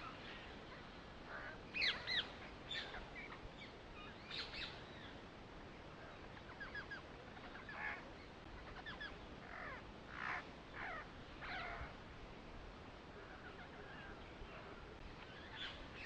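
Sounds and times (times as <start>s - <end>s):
birds chirping: 0.0s - 12.0s, 13.2s - 16.0s
faint hiss: 0.0s - 16.0s.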